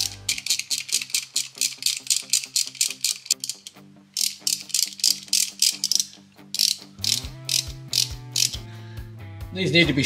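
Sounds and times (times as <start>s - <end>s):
hand ratchet clicking: 0.0s - 8.6s.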